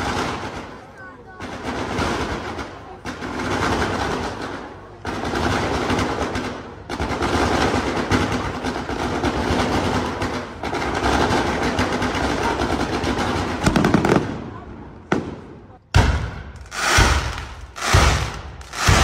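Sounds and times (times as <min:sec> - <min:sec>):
fireworks launches and bangs: 0:00.0 - 0:19.0.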